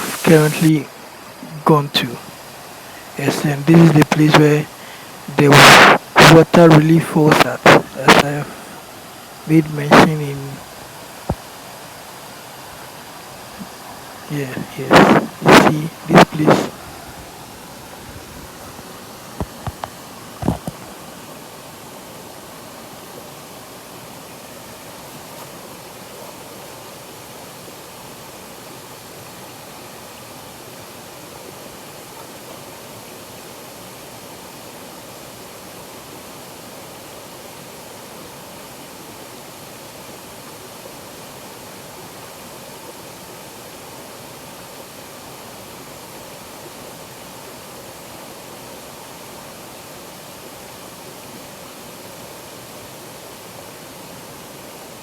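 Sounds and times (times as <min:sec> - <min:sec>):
waterfall pouring and splashing: 0:00.0 - 0:55.0.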